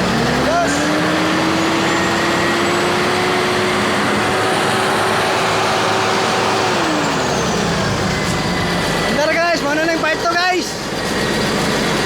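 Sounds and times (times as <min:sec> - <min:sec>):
constant whine: 0:00.0 - 0:12.0
tractor diesel engine running: 0:00.0 - 0:12.0.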